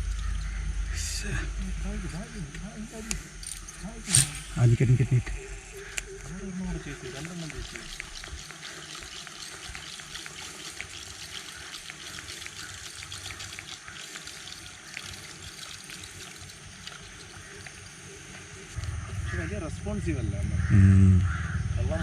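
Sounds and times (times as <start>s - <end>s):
stream water trickling: 0.0s - 4.6s, 5.7s - 19.4s.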